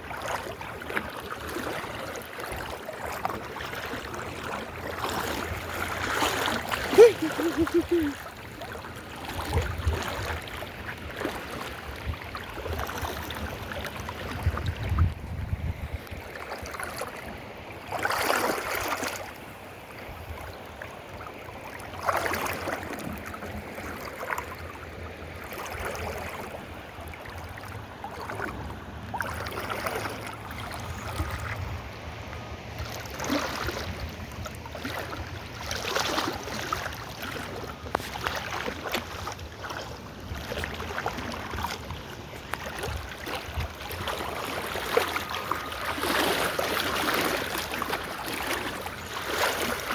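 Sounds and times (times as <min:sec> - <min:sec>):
river water rushing: 0:00.0 - 0:14.6, 0:16.1 - 0:49.9.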